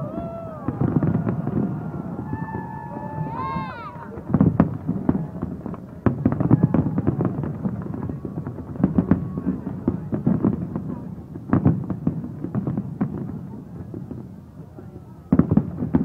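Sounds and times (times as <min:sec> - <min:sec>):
fireworks bursting with sharp bangs: 0:00.0 - 0:16.0.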